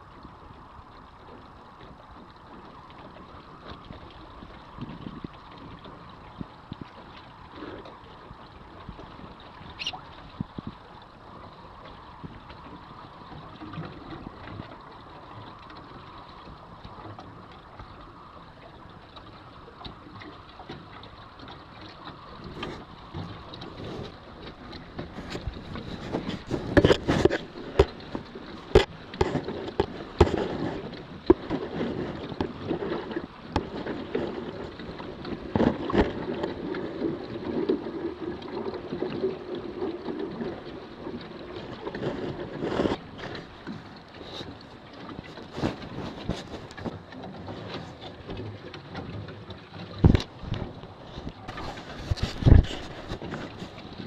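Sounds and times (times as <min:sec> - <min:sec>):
water rushing along hull: 0:00.0 - 0:54.0
waves slapping bow: 0:00.0 - 0:54.0.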